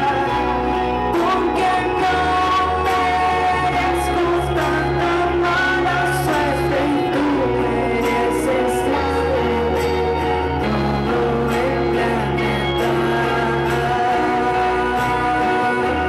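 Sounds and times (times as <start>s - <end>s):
acoustic guitar: 0.0s - 16.0s
woman singing into a microphone: 0.0s - 16.0s.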